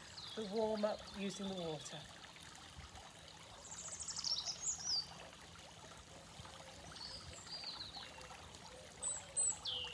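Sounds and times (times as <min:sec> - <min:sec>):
fountain trickling and splashing: 0:00.0 - 0:09.9.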